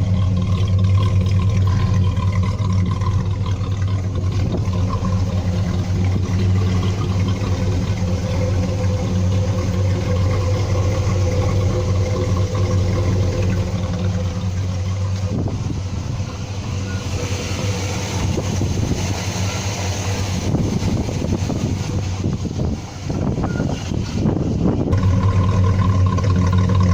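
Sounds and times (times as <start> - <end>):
vee eight engine exhaust note: 0.0 - 23.9, 24.7 - 26.9.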